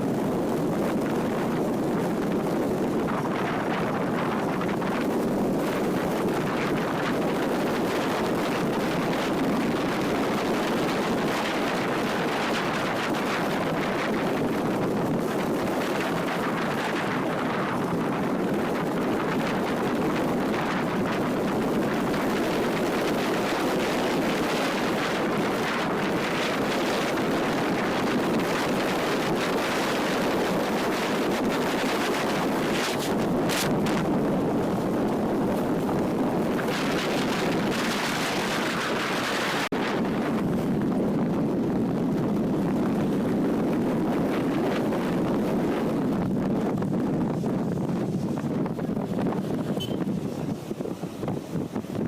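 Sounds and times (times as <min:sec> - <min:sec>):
motorcycle road noise: 0:00.0 - 0:52.0
wind rushing over microphone: 0:00.0 - 0:52.0.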